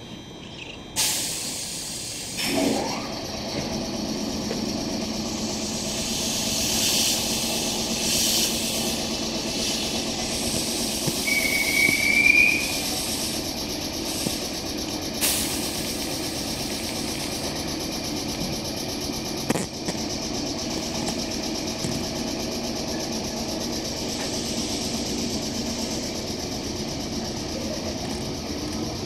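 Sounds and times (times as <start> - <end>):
electric train equipment running: 0.0 - 29.0.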